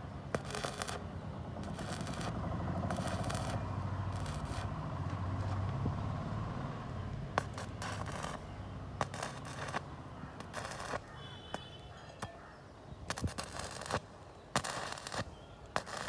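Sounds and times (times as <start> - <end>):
arc welding crackling sizzle: 0.0 - 5.5, 7.4 - 16.0.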